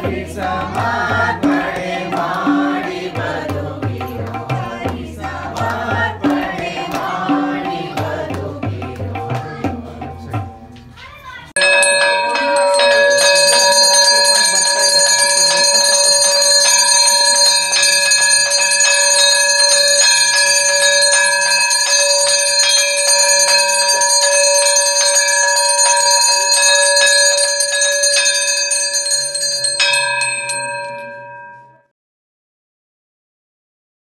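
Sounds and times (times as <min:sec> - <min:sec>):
hand bell ringing rapidly: 0:00.6 - 0:09.4, 0:11.6 - 0:31.8.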